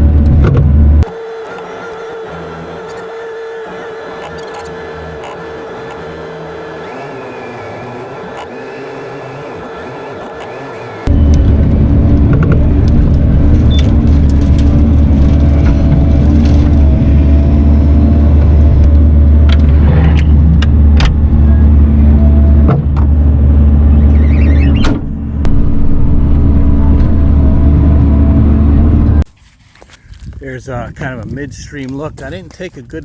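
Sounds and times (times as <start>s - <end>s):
diesel engine running loud: 0.0s - 29.3s.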